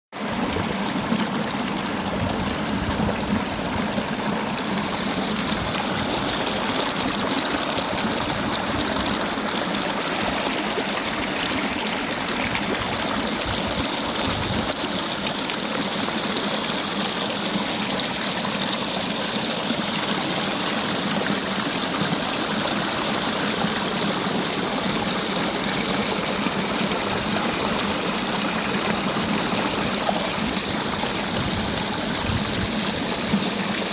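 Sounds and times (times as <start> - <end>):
stream water rushing: 0.2 - 33.9.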